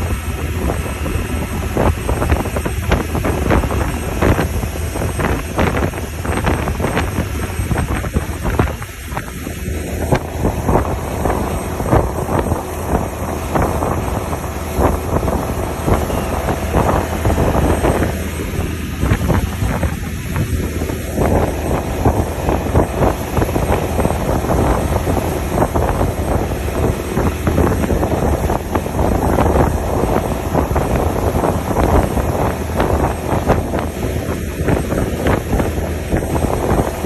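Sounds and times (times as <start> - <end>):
motorboat engine hum: 0.0 - 37.0
wake water rushing: 0.0 - 37.0
wind buffeting microphone: 0.0 - 37.0.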